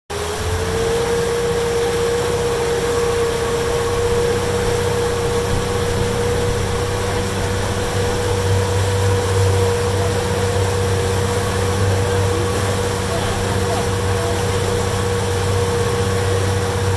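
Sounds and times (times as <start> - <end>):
boat motor running: 0.1 - 16.9
low hum: 0.3 - 16.9.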